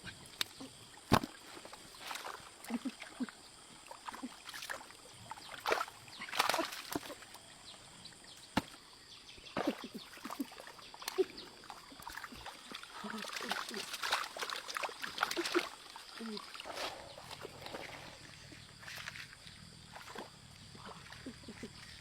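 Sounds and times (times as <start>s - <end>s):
stream water splashing: 0.0s - 22.0s.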